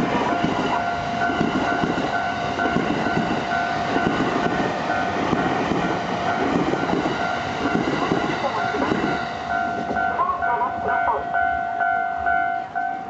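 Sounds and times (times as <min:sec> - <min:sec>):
level-crossing alarm ringing: 0:00.0 - 0:05.2, 0:05.9 - 0:13.0
train rumbling: 0:00.0 - 0:13.0.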